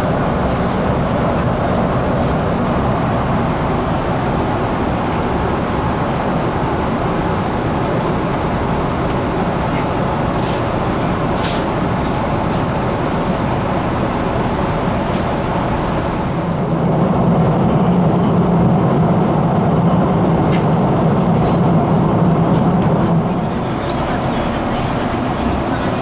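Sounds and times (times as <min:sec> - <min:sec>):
airliner cabin engine roar: 0:00.0 - 0:26.0.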